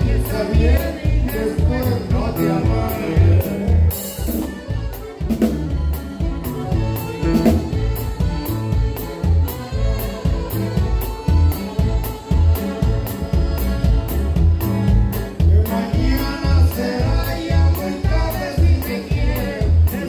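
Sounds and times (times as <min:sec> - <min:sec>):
accordion: 0:00.0 - 0:20.0
drum kit beat: 0:00.0 - 0:20.0.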